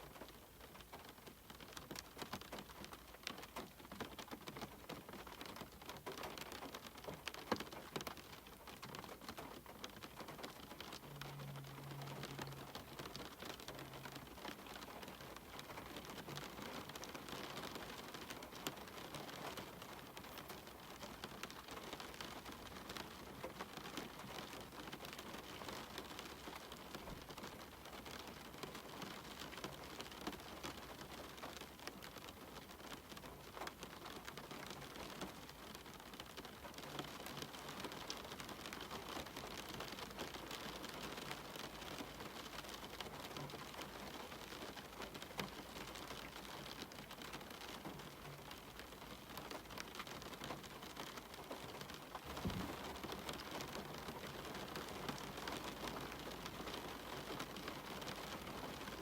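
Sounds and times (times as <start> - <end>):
steady rain falling: 0.0 - 59.0
raindrops tapping: 0.1 - 59.0.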